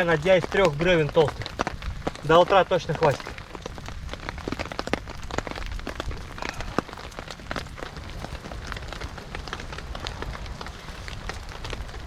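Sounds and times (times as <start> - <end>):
raindrops tapping: 0.0 - 12.0
steady rain falling: 0.0 - 12.0.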